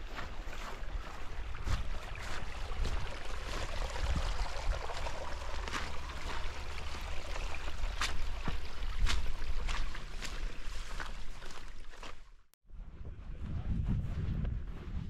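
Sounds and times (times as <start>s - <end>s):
wind rumbling on microphone: 0.0s - 10.4s, 12.7s - 15.0s.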